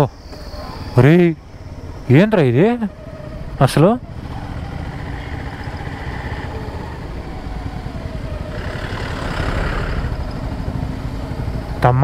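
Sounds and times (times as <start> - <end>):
rush of noise: 0.0 - 12.0
motorcycle engine running: 0.2 - 12.0.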